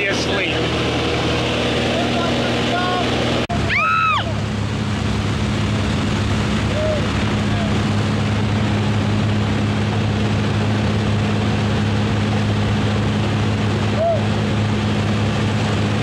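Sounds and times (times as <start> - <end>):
propeller plane engine drone: 0.0 - 16.0
rushing air noise: 0.0 - 16.0.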